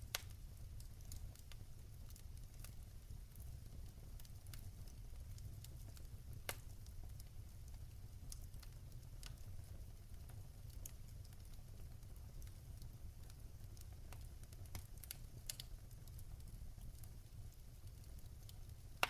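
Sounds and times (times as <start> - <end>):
fire crackling in a fireplace: 0.0 - 19.0.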